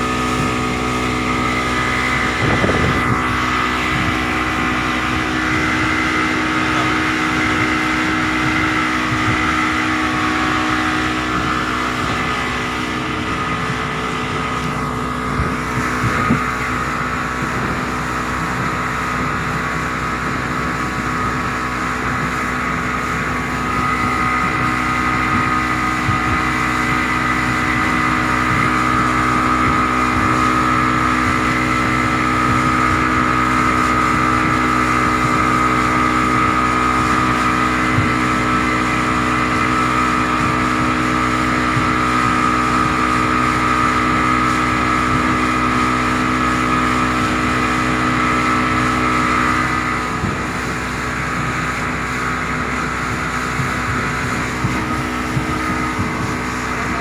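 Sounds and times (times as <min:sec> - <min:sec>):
engine running with whine: 0:00.0 - 0:57.0.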